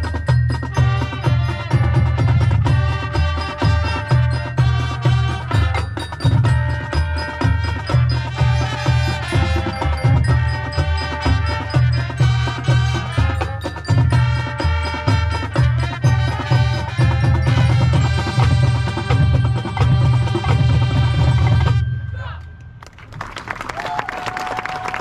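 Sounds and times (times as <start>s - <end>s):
low repeating drum beat: 0.0s - 21.9s
marching band playing: 0.0s - 22.1s
held wind chords: 0.0s - 23.4s.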